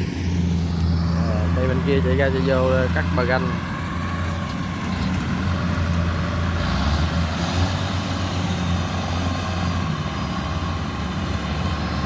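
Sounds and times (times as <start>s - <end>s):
combine harvester diesel engine running: 0.0s - 12.0s.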